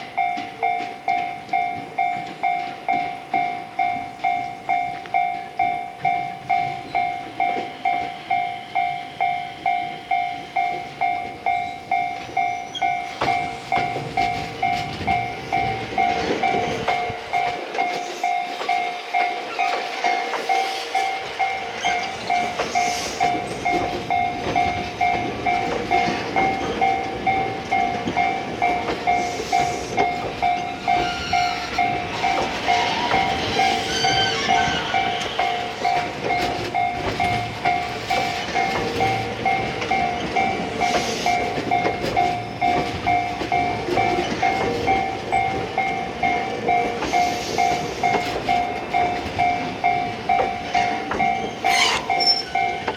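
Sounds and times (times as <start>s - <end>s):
level-crossing bell dinging: 0.0s - 52.9s
train wheels clattering: 0.0s - 52.9s.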